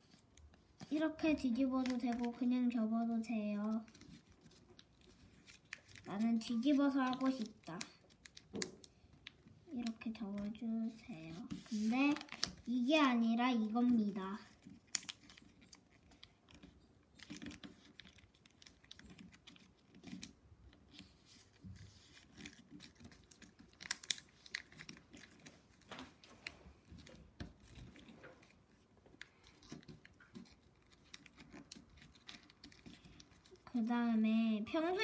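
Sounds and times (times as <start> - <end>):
paper rustling and crinkling: 0.0 - 33.9
sharp paper clicks: 1.6 - 10.6, 11.3 - 33.7.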